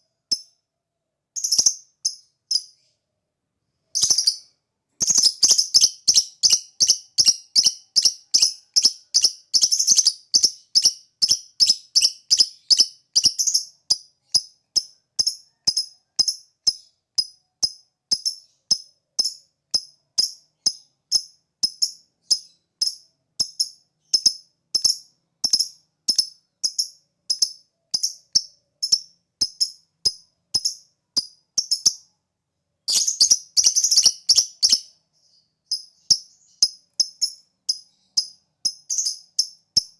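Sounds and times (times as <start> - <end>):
bird chirping: 0.0 - 0.7, 1.3 - 39.9.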